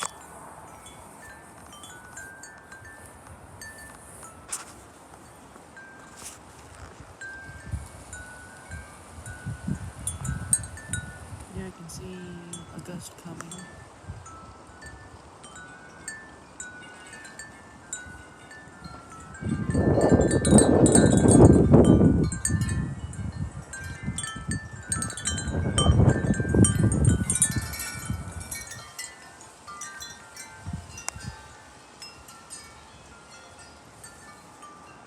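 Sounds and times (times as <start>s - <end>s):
wind chimes ringing: 0.0s - 35.0s
wind gusts: 0.0s - 35.0s.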